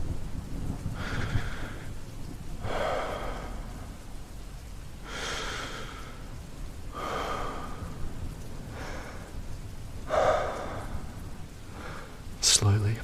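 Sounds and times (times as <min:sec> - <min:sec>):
man breathing slowly: 0:00.9 - 0:12.4.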